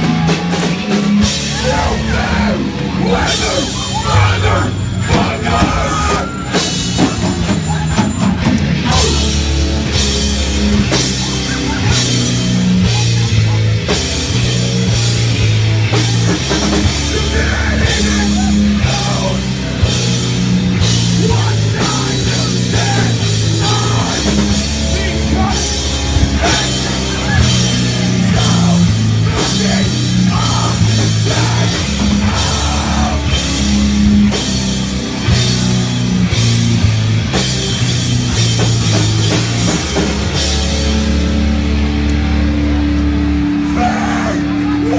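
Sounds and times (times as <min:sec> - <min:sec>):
drum kit pounding beat: 0:00.0 - 0:44.0
heavy low guitar riffs: 0:00.0 - 0:44.9
punk band playing live: 0:00.0 - 0:44.9.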